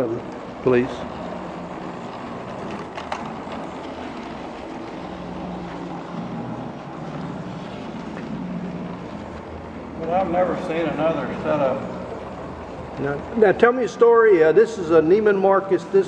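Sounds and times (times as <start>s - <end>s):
wheels rolling on rails: 0.0s - 16.0s.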